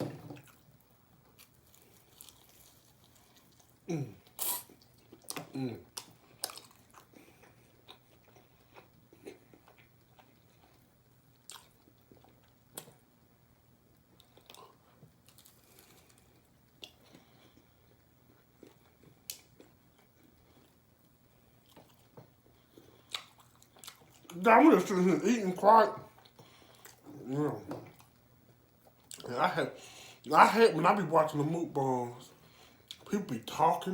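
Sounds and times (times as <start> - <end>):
crunching and chewing food: 0.0 - 33.9.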